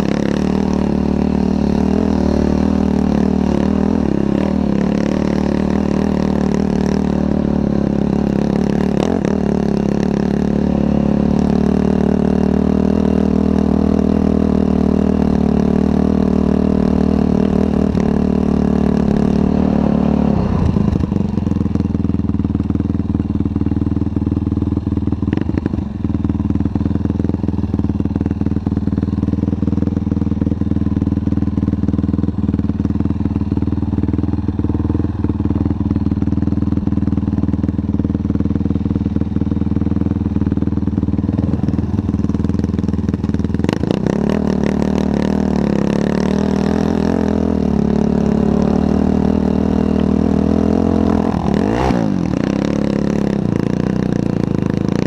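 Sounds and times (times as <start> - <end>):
quad engine running and revving: 0.0 - 55.0.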